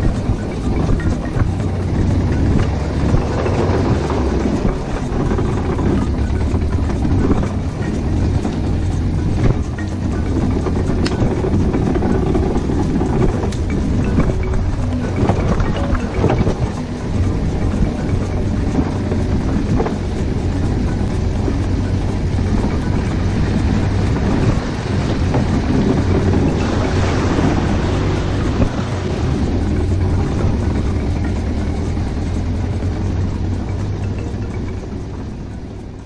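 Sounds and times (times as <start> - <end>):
vehicle rumbling over rough track: 0.0 - 36.0.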